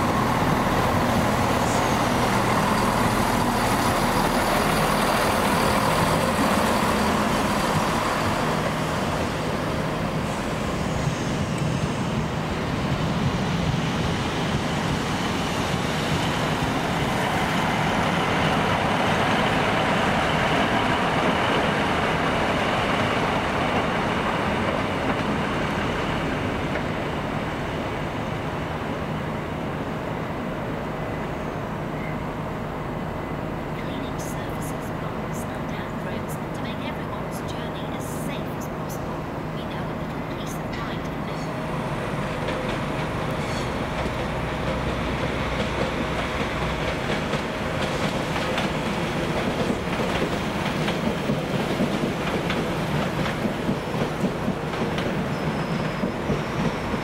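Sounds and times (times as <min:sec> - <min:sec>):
passenger train running: 0:00.0 - 0:57.0.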